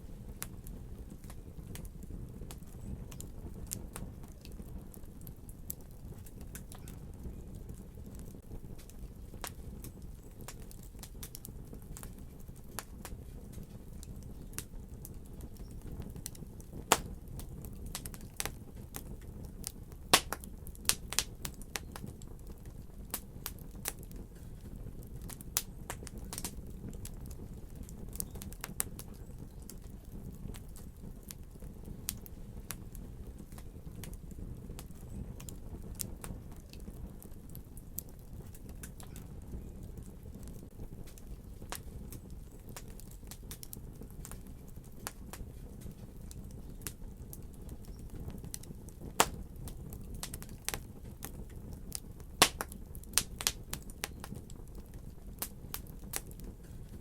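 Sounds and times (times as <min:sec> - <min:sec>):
fire pops and snaps: 0:00.0 - 0:57.0
low rumble of flames: 0:00.0 - 0:57.0
wood fire crackling: 0:00.0 - 0:57.0.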